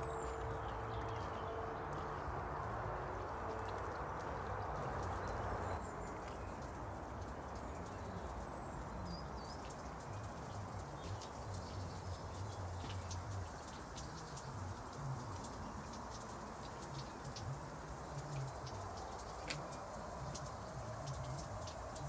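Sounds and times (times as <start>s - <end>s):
light rain pattering: 0.1s - 22.0s.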